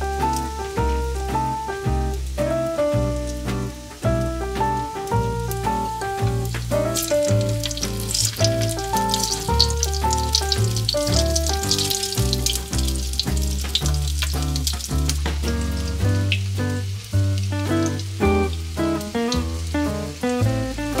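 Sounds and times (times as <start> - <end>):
background music with bass: 0.0 - 21.0
cutlets sizzling in oil: 0.0 - 21.0.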